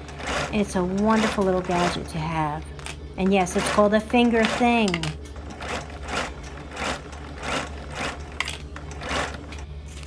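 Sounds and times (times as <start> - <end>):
sewing machine stitching: 0.0 - 9.7.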